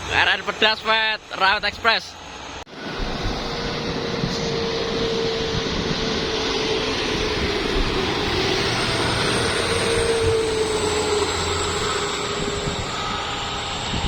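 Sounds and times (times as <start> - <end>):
heavy truck engine and tyre noise: 0.0 - 14.0.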